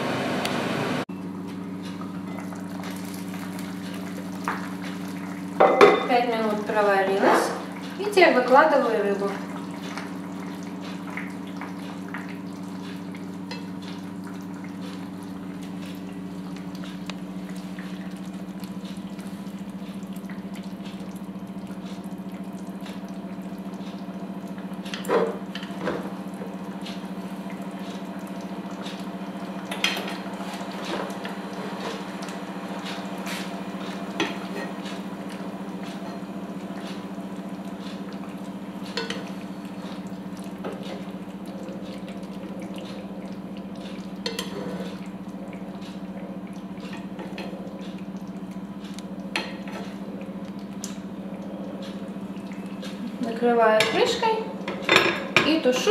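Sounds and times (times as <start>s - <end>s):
water simmering in pan: 1.9s - 55.9s.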